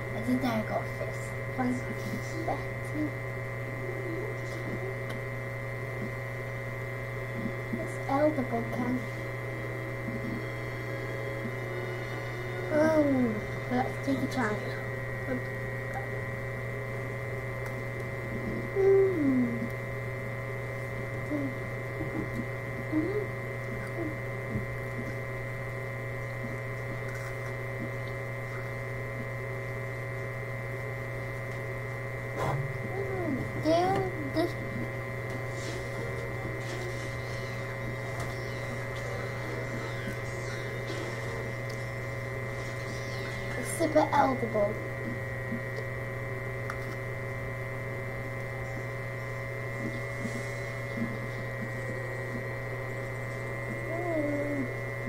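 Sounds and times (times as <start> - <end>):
electrical hum: 0.0 - 55.0
thin high whine: 0.0 - 55.0.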